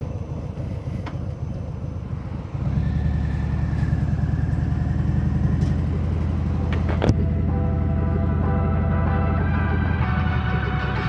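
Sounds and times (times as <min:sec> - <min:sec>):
motorcycle engine exhaust: 0:00.0 - 0:09.9.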